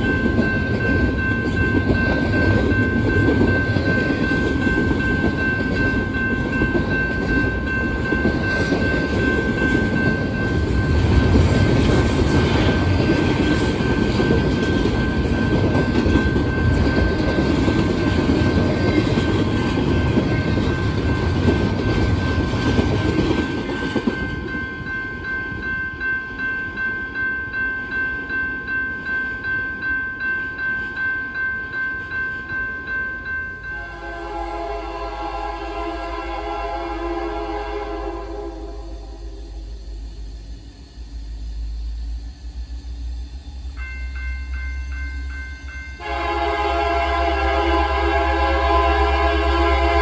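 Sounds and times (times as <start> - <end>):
high ringing tone: 0.0 - 34.7, 37.7 - 46.9
train wheels rumbling on rail: 0.0 - 50.0.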